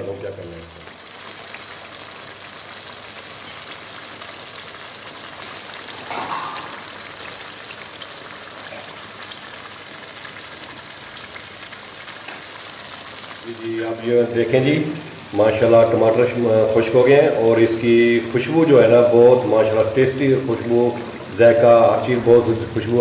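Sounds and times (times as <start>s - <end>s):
gravy simmering and sizzling: 0.0s - 23.0s.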